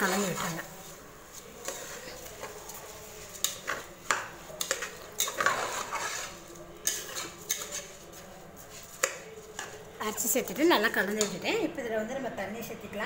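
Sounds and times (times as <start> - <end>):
metal spatula scraping pot: 0.0 - 11.4.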